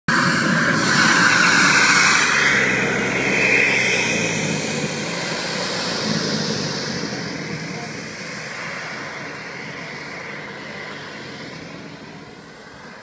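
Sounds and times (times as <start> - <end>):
jet turbine hiss and whine: 0.1 - 13.0.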